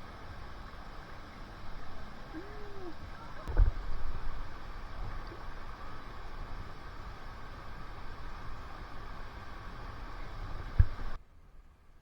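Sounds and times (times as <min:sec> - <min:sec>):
river water rushing: 0:00.0 - 0:11.2.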